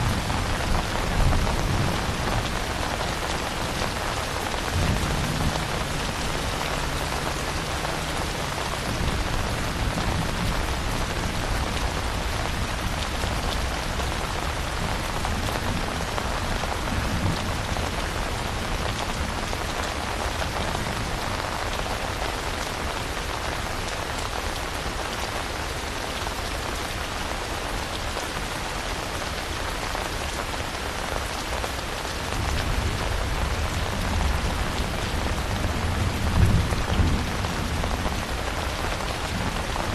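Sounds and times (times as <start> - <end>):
dense rain: 0.0 - 39.9.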